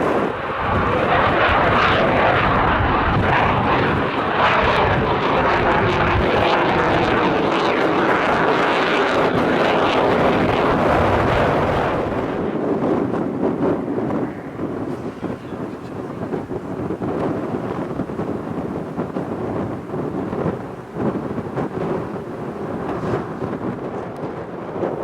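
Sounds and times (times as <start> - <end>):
jet engines in flight: 0.0 - 25.0.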